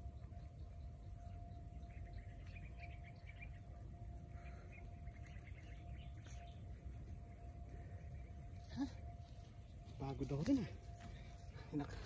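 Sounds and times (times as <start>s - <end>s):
faint bird chirping: 0.0s - 12.0s
high-pitched whine: 0.0s - 12.0s.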